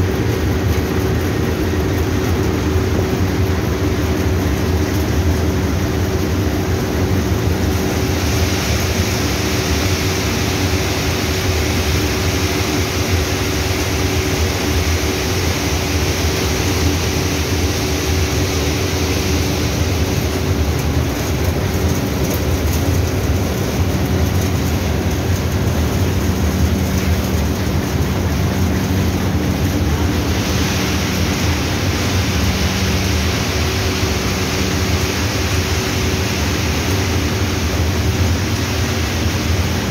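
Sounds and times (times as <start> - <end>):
blower rushing noise: 0.0 - 39.9
machinery humming: 0.0 - 39.9.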